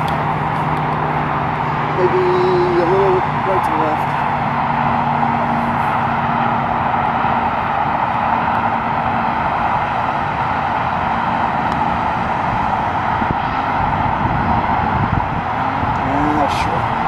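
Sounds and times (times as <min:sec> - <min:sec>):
distant engines rushing: 0:00.0 - 0:17.0
low hum: 0:00.0 - 0:17.0.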